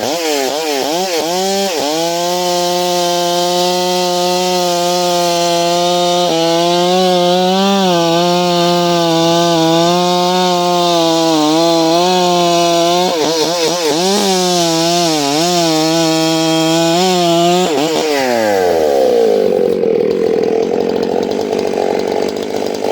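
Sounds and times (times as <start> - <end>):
chainsaw cutting wood: 0.0 - 22.9
chainsaw idling: 0.0 - 22.9.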